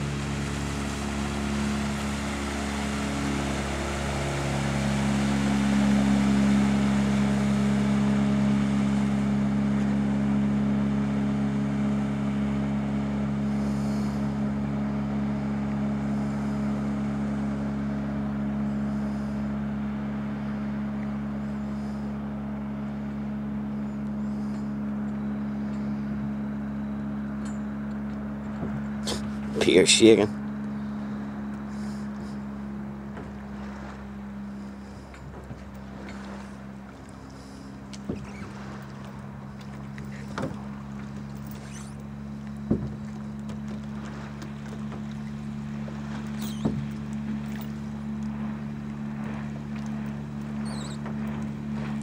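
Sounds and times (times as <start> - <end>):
outboard motor droning: 0.0 - 52.0.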